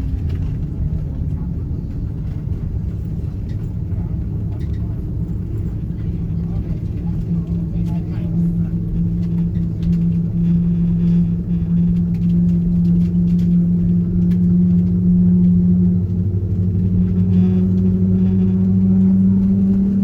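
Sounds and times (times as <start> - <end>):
jet engines humming in cabin: 0.0 - 20.0.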